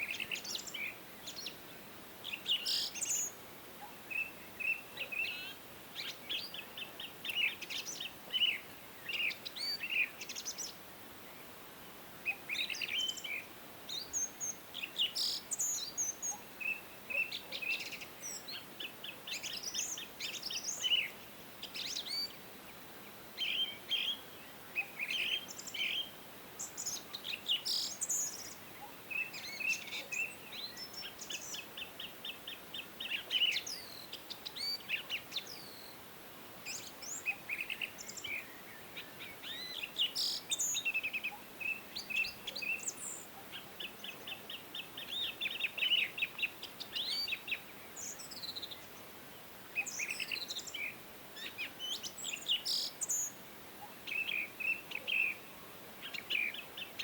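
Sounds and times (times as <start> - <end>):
faint steady hiss: 0.0 - 57.0
songbirds chirping and trilling: 0.0 - 57.0.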